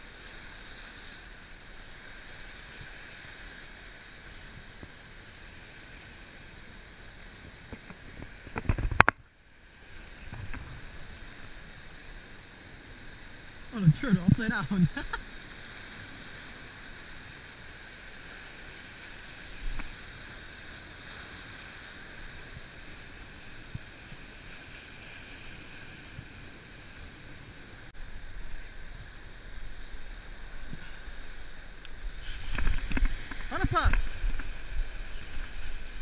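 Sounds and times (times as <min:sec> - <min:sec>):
surf washing over rocks: 0:00.0 - 0:36.0.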